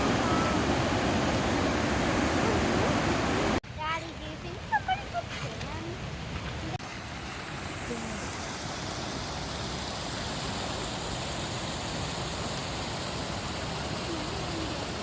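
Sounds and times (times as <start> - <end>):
river rushing in flood: 0.0 - 15.0.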